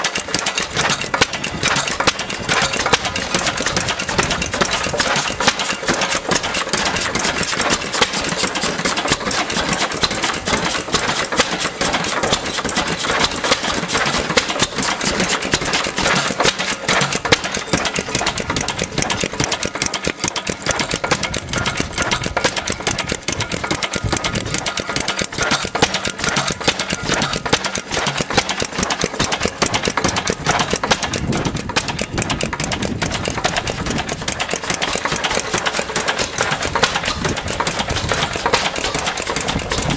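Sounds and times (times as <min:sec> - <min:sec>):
stationary engine clattering: 0:00.0 - 0:39.9.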